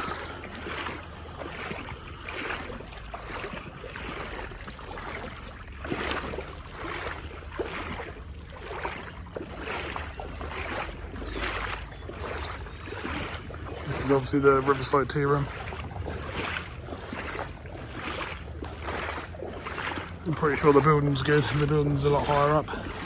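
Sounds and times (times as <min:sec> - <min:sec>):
wading through floodwater: 0:00.0 - 0:23.0.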